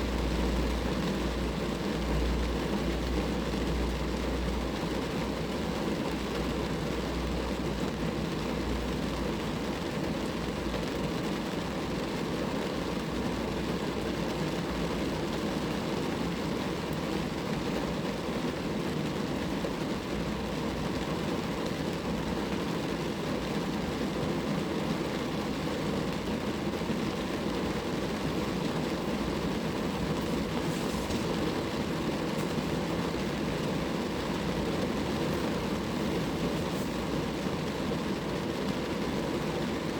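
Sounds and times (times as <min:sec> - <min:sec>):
rain falling on a car: 0:00.0 - 0:39.9.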